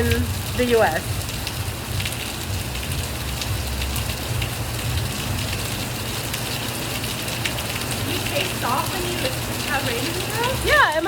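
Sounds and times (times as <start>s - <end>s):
heavy rain hissing: 0.0s - 11.0s
sharp raindrop hits: 0.0s - 11.0s.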